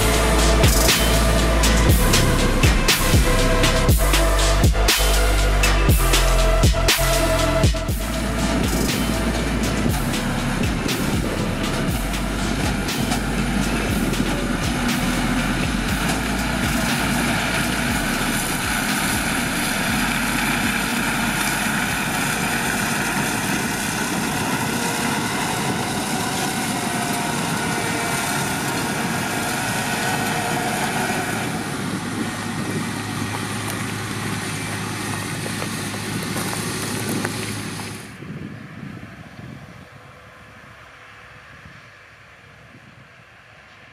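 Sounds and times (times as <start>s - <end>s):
harvester diesel engine and machinery: 0.0s - 43.9s.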